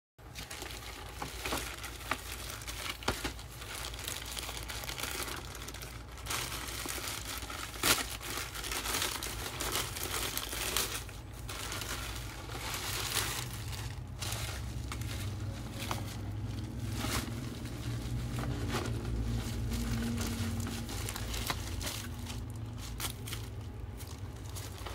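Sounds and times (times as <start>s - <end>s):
bubble wrap rustling: 0.2s - 24.9s
plastic mailer crinkling and tearing: 0.2s - 24.9s.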